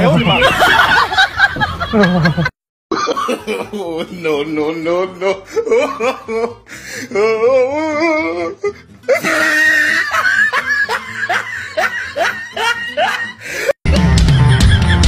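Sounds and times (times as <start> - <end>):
hearty laughter: 0.3 - 6.6, 9.1 - 15.0.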